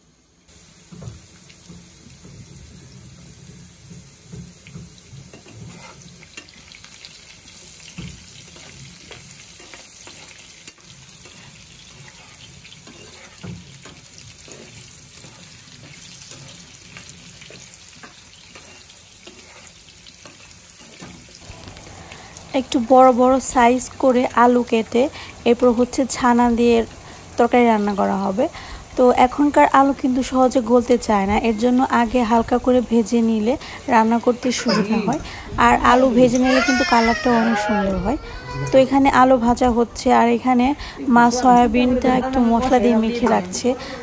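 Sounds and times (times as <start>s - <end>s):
potatoes sizzling in oil: 0.0s - 44.0s.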